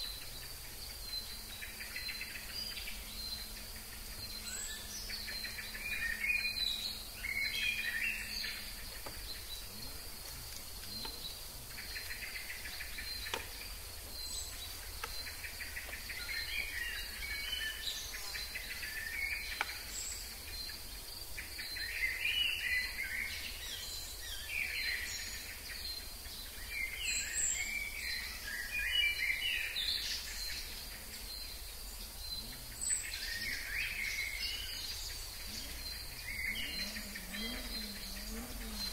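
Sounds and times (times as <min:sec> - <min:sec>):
birds singing and chirping: 0:00.0 - 0:38.9
high insect buzz: 0:00.0 - 0:38.9.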